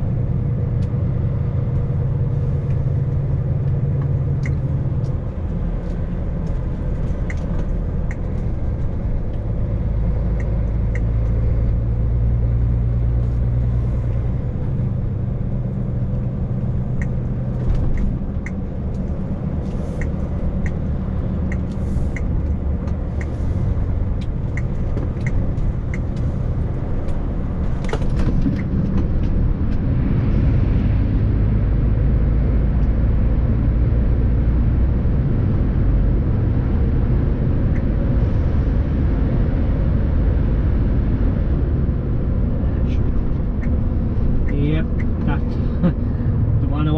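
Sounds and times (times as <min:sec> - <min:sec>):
lorry diesel engine running: 0:00.0 - 0:46.9
road noise: 0:00.0 - 0:46.9.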